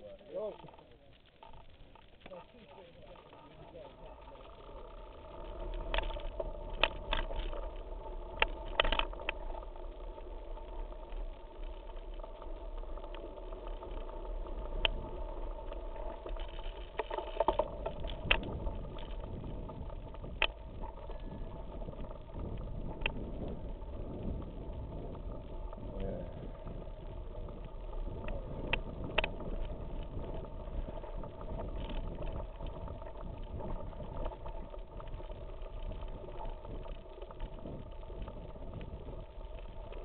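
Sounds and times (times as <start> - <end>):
bike rattling over rough ground: 0.0 - 40.0
bike tyres rumbling on gravel: 0.0 - 40.0.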